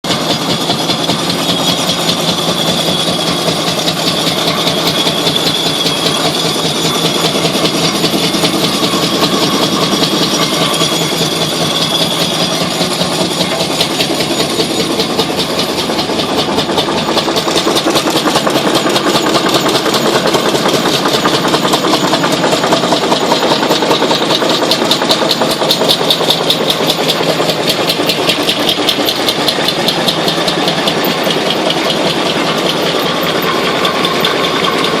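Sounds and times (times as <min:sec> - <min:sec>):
sawmill machinery clattering: 0:00.0 - 0:35.0.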